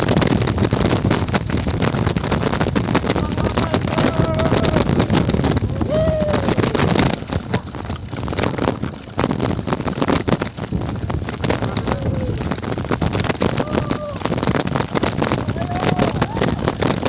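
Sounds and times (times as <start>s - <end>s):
mountain bike rattling over dirt: 0.0s - 17.0s.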